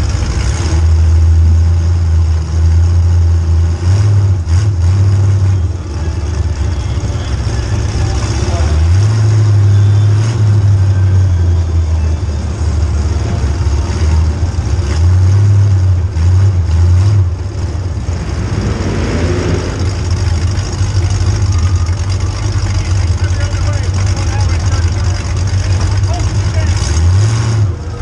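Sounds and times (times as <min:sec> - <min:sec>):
car engine running loudly: 0:00.0 - 0:28.0.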